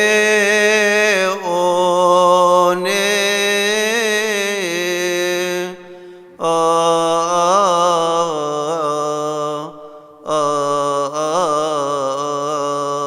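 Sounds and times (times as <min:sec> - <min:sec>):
man chanting a hymn: 0:00.0 - 0:13.0.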